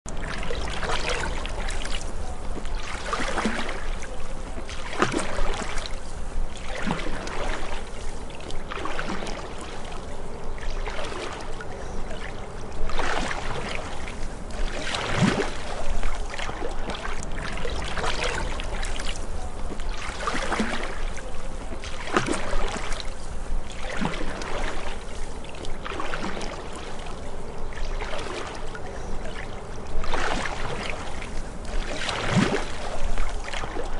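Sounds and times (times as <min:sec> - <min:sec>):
paddle splashing in water: 0:00.1 - 0:33.9.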